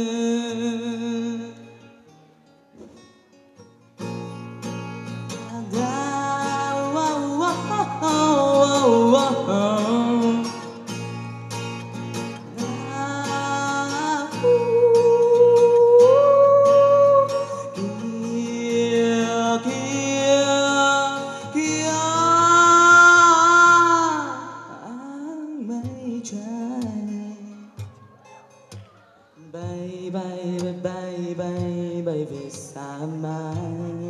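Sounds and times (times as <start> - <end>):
man singing: 0.0 - 2.0, 5.2 - 11.1, 12.2 - 28.1, 29.4 - 34.0
strummed acoustic guitar: 0.0 - 34.0.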